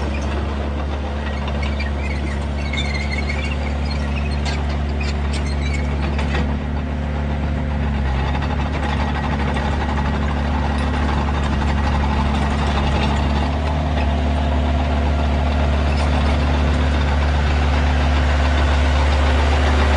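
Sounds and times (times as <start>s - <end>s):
bulldozer diesel engine running: 0.0s - 19.9s.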